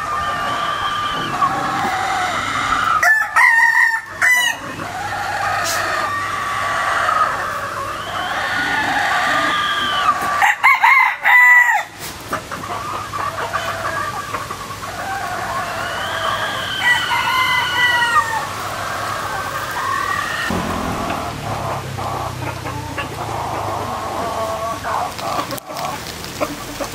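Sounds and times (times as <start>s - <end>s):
roosters crowing: 0.0s - 12.0s, 13.0s - 26.6s
chickens clucking: 0.0s - 26.9s.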